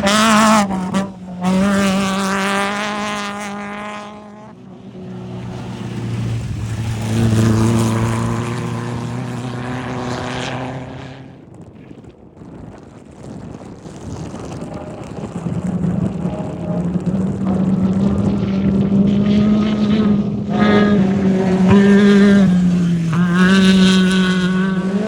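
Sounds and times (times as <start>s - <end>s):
high-revving engine: 0.0s - 11.6s, 13.2s - 25.0s.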